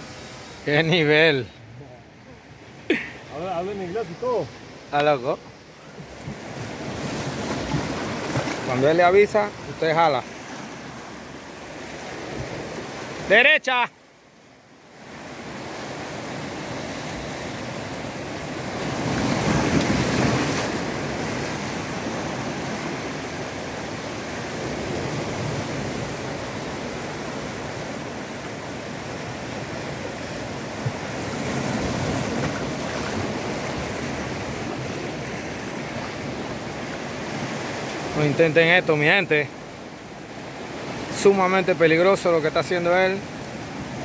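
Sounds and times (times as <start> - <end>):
waves breaking on rocks: 2.6 - 13.8, 14.9 - 44.0.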